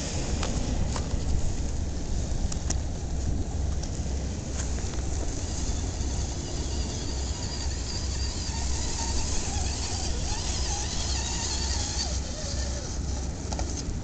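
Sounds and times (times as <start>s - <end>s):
wind buffeting microphone: 0.0s - 14.0s
small electric motor whine: 0.3s - 14.0s.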